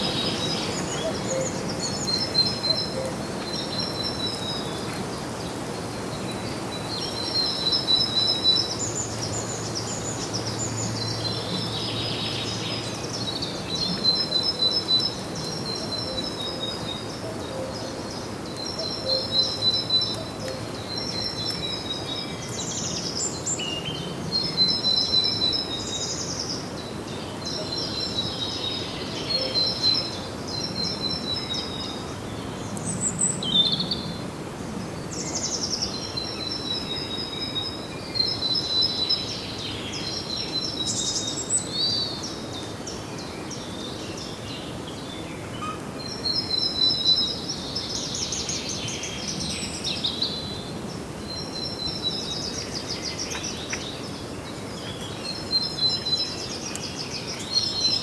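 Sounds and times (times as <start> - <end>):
songbirds chirping: 0.0 - 58.0
steady background hiss: 0.0 - 58.0.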